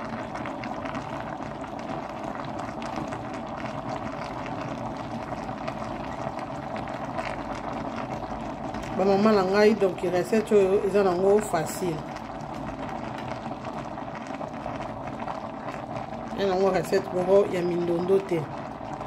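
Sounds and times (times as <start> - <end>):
pot simmering and bubbling: 0.0 - 19.0.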